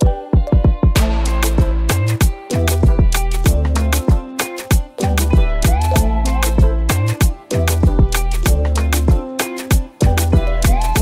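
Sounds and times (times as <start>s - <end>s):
upbeat music with drum beat: 0.0s - 11.0s.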